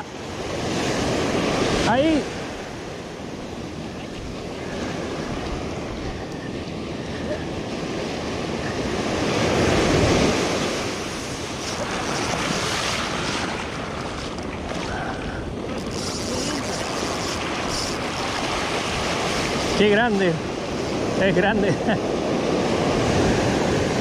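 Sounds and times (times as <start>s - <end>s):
wind on microphone: 0.0s - 21.3s, 22.0s - 24.0s
ocean surf on shore: 0.0s - 24.0s.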